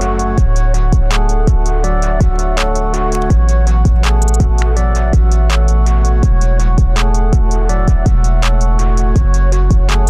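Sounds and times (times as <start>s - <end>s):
deep kick drums: 0.0s - 10.0s
high ticking percussion: 0.0s - 10.0s.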